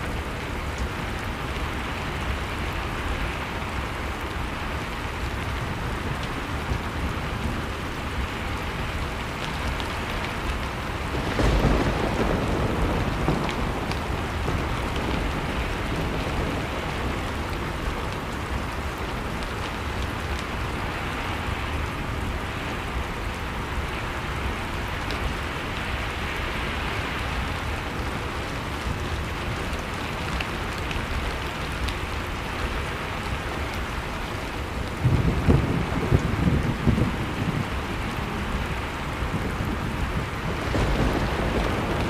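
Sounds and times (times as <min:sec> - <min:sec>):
faint wood fire crackles: 0:00.0 - 0:42.0.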